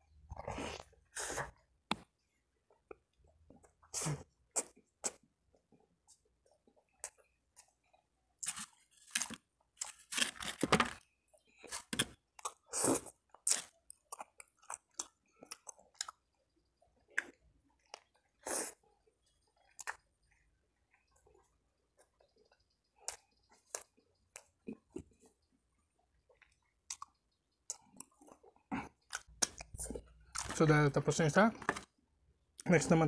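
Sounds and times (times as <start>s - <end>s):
chewing and crunching waffle: 0.0s - 32.6s.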